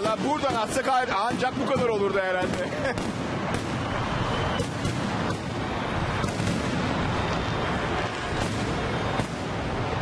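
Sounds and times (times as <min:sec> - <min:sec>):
fireworks bursting: 0:00.0 - 0:10.0
steady loud din: 0:00.0 - 0:10.0.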